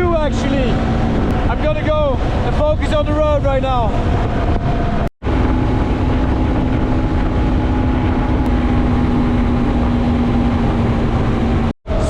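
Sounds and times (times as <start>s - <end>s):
motorcycle engine cruising: 0.0s - 3.1s, 3.9s - 12.0s
wind rumble on microphone: 0.0s - 12.0s.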